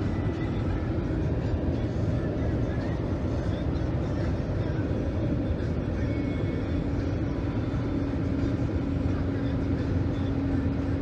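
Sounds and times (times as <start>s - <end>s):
engine and road rumble: 0.0s - 11.0s
steady hum: 0.0s - 11.0s.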